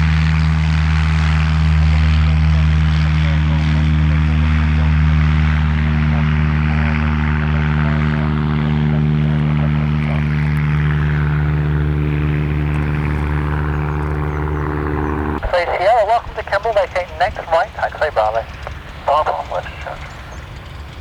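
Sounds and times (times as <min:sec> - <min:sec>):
propeller aircraft engine drone: 0:00.0 - 0:21.0.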